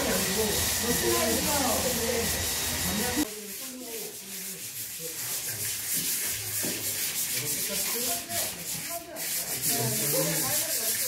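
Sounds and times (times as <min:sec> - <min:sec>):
sandpaper rubbing on wood: 0:00.0 - 0:11.0.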